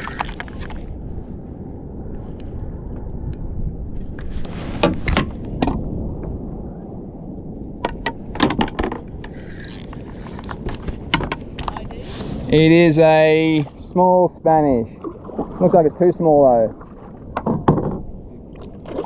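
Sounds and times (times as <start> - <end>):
water noise: 0.0 - 19.0
wind: 0.0 - 19.0.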